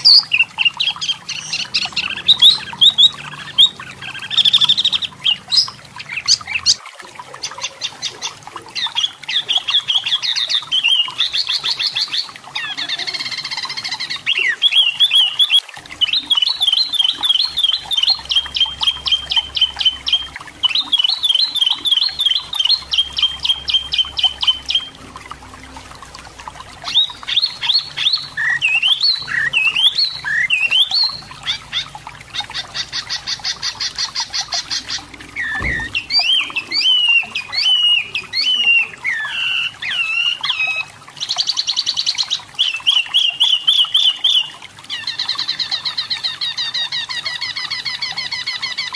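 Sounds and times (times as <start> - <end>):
bird singing trills and whistles: 0.0 - 6.8, 7.5 - 25.0, 26.8 - 48.9.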